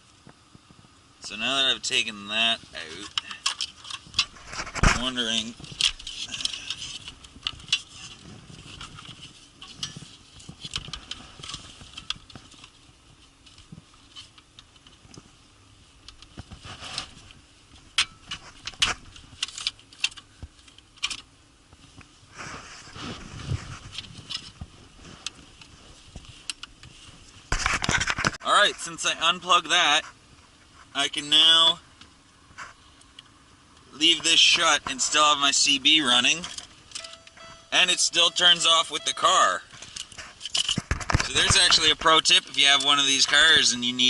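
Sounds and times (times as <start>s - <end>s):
rustling: 2.4s - 28.9s, 30.0s - 44.0s.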